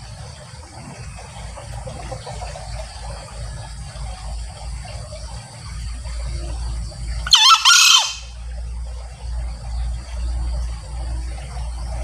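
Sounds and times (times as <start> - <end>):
insects chirring: 0.0 - 12.0
low uneven rumble: 0.0 - 12.0.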